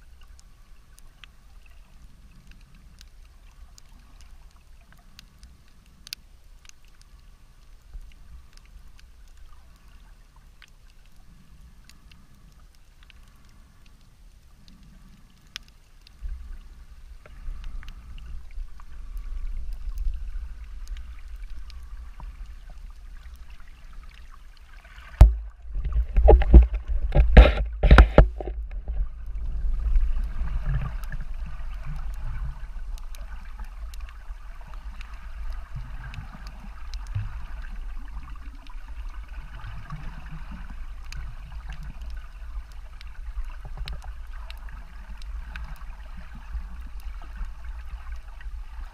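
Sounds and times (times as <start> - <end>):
faint underwater clicks: 0.0 - 48.9
underwater rumble of sea water: 0.0 - 48.9.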